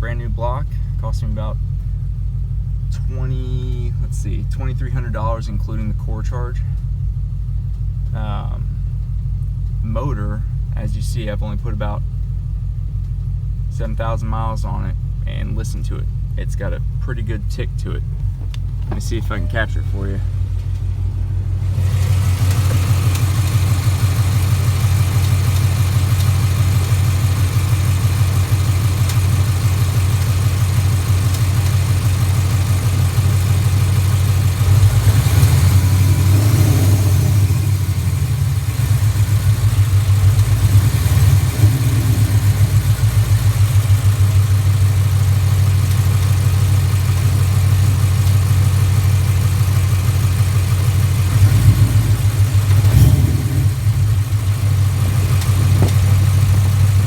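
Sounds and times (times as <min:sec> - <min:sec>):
car engine idling with tick: 0:00.0 - 0:57.0.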